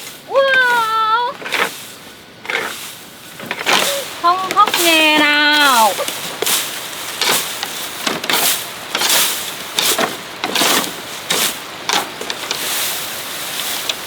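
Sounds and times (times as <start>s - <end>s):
swishing scraping strokes: 0.0s - 13.9s.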